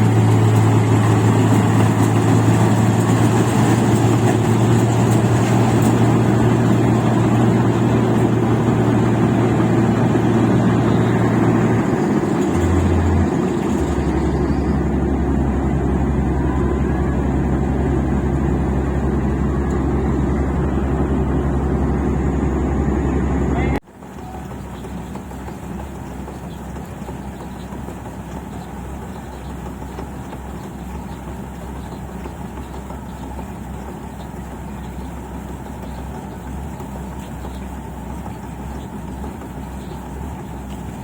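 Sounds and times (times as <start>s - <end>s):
combine harvester engine droning: 0.0s - 41.0s.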